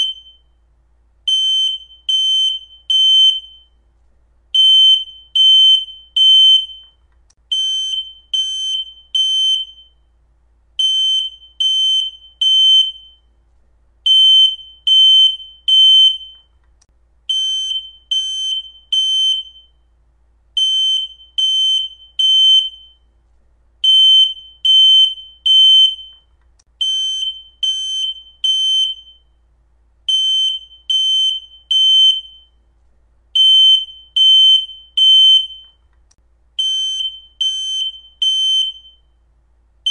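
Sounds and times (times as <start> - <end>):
smoke alarm beeping: 0.0 - 0.6, 1.3 - 3.8, 4.6 - 10.1, 10.8 - 13.4, 14.1 - 16.6, 17.3 - 19.8, 20.6 - 23.1, 23.8 - 29.4, 30.1 - 32.6, 33.4 - 35.9, 36.6 - 39.2.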